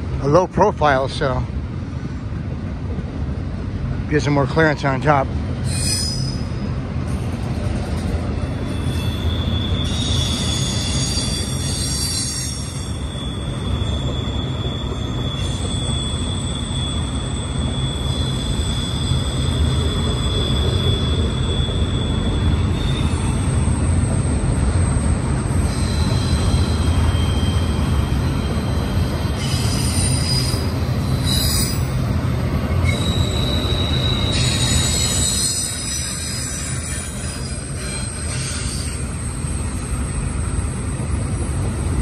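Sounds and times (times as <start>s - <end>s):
train wheels rumbling on rail: 0.0s - 42.0s
high wheel squeal: 5.6s - 42.0s.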